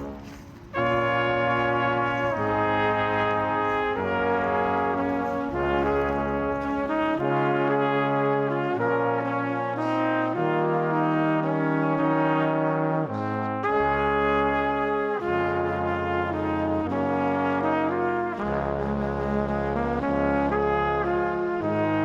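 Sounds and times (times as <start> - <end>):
sustained brass chords: 0.0 - 22.0.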